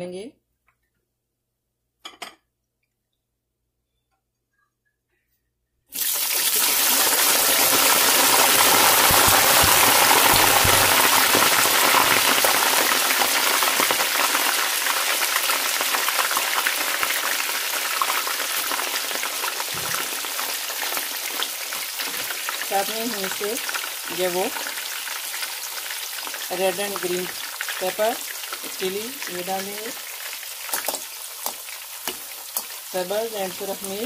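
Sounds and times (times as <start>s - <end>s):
hot oil sizzling: 5.9s - 34.0s.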